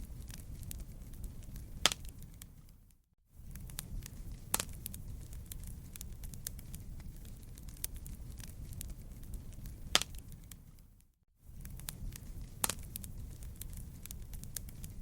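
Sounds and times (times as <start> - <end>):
fire popping and snapping: 0.0 - 15.0
low rumble of flames: 0.0 - 15.0.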